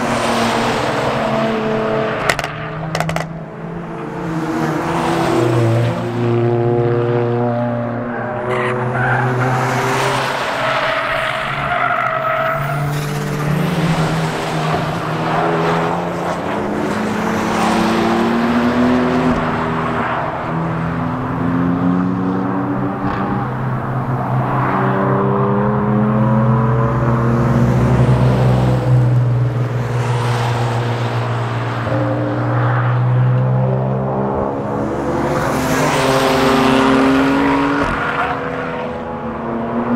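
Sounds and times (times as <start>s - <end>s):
race car engines passing: 0.0s - 39.9s.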